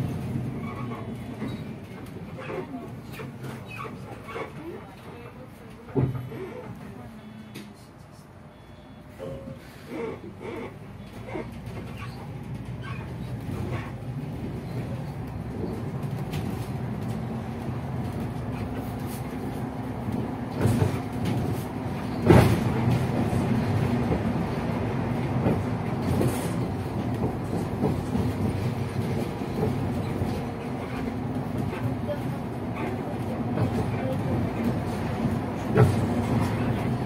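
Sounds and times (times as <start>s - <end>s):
bus engine rumble: 0.0s - 37.0s.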